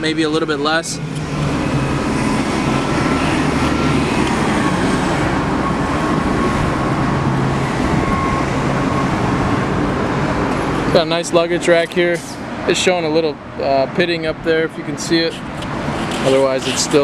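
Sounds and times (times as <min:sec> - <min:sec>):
road traffic rumble and hiss: 0:00.0 - 0:17.0.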